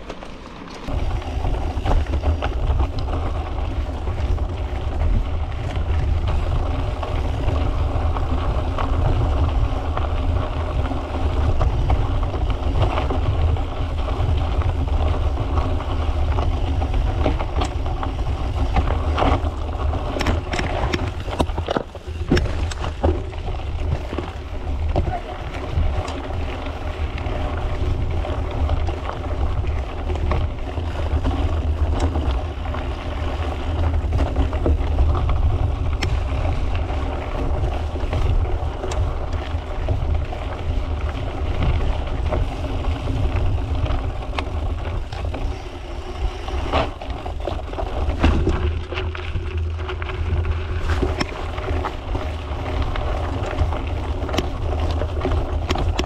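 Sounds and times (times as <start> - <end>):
bicycle rattles and clicks: 0.0 - 56.0
steady droning hum: 0.0 - 56.0
wind rumbling on microphone: 0.0 - 56.0.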